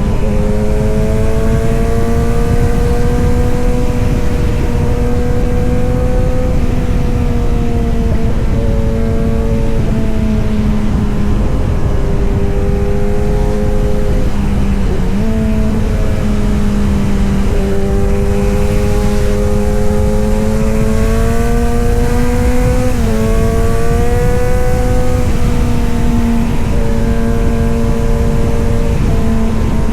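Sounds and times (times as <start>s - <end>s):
motorcycle engine and exhaust running: 0.0s - 29.9s.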